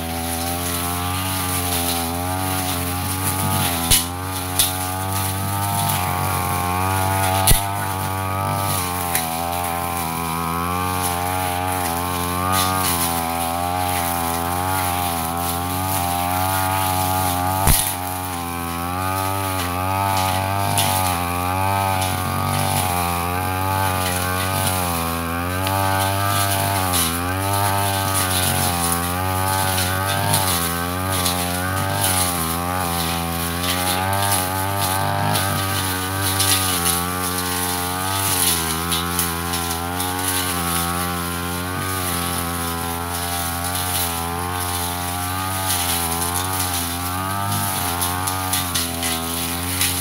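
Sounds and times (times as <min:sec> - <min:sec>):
brush cutter engine at high revs: 0:00.0 - 0:50.0.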